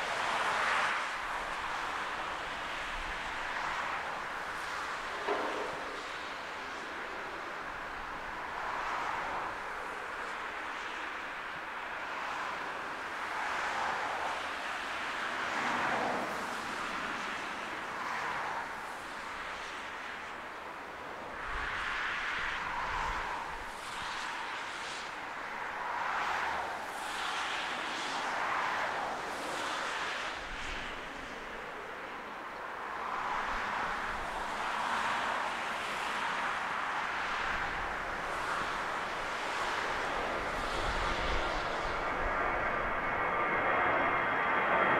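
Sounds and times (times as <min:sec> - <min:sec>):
distant jet engines: 0:00.0 - 0:44.9.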